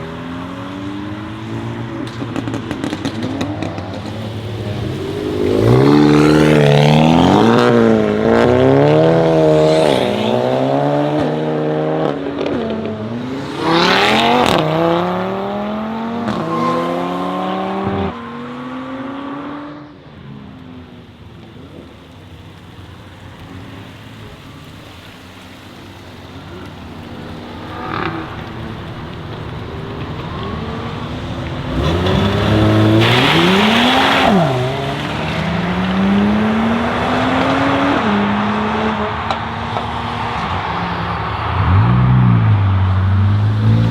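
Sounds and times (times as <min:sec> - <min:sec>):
sports car engines accelerating: 0:00.0 - 0:43.9.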